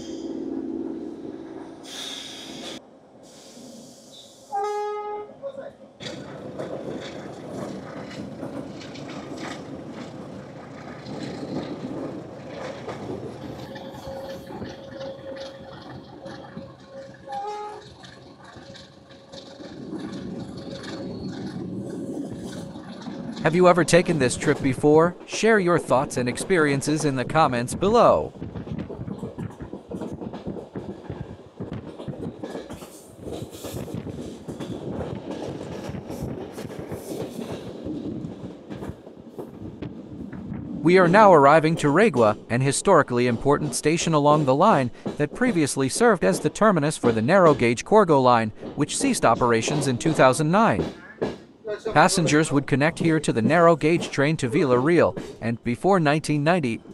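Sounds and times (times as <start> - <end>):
train rumbling along track: 0.0 - 56.9
wheels and carriage rattling: 6.0 - 55.5.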